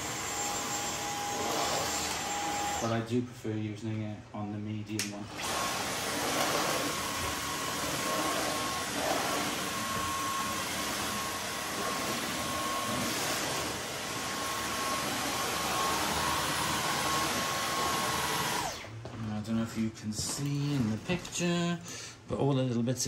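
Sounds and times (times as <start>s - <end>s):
vacuum cleaner running: 0.0s - 3.1s, 5.2s - 19.1s, 20.2s - 21.7s.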